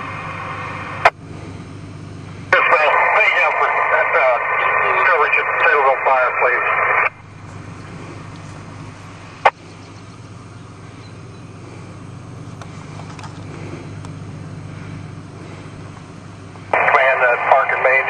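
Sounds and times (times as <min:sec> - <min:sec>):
road noise: 0:00.0 - 0:18.0
traffic engine hum: 0:00.0 - 0:18.0.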